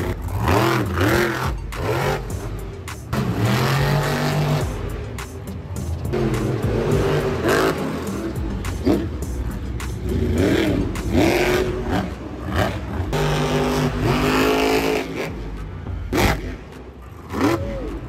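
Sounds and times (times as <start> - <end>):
monster truck engines revving: 0.0 - 18.0.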